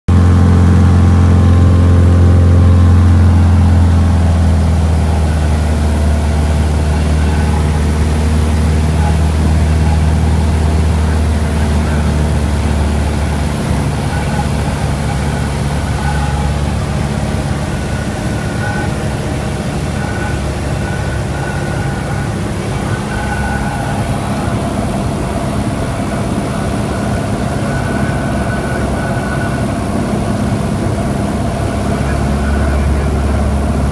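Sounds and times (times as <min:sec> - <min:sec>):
propeller plane engine from cabin: 0:00.1 - 0:33.9.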